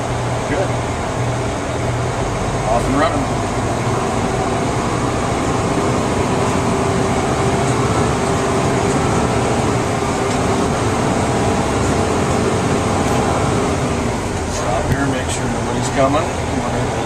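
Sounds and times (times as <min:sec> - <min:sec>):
engine drone: 0:00.0 - 0:17.0
road noise: 0:00.0 - 0:17.0.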